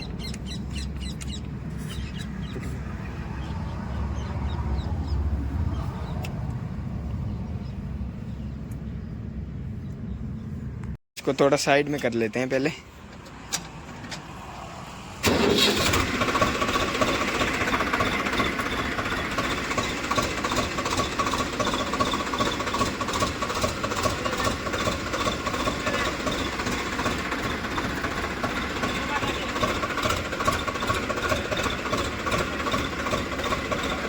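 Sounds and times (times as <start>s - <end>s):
tractor diesel engine starting: 0.0s - 7.1s, 13.2s - 34.0s.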